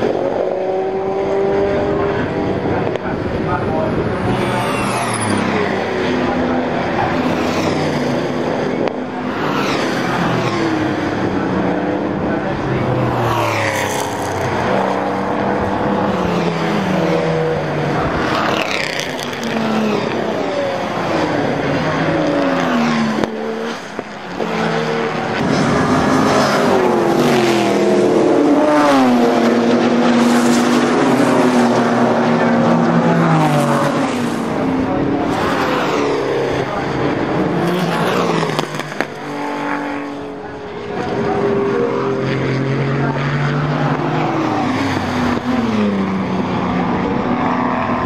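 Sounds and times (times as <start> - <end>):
racing car engines passing: 0.0 - 48.0.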